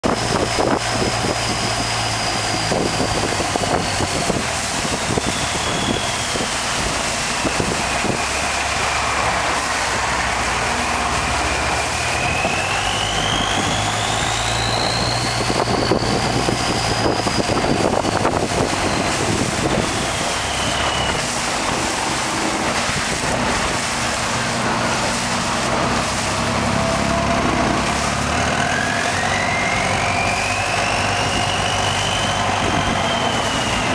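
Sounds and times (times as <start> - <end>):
boat engine running: 0.0 - 33.9
wind and water rushing: 0.0 - 33.9
thin high whine: 0.4 - 33.9.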